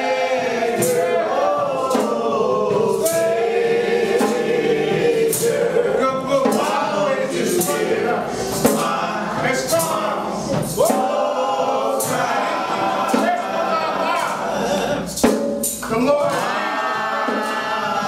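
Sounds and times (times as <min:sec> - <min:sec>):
choir and congregation singing: 0:00.0 - 0:18.0
percussive beat: 0:00.0 - 0:18.0.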